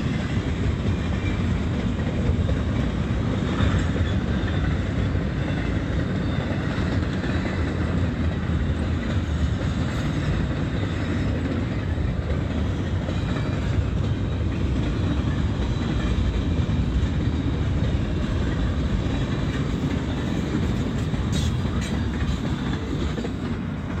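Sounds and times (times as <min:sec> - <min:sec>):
freight train rumbling past: 0:00.0 - 0:24.0
wheels clattering over rail joints: 0:00.0 - 0:24.0.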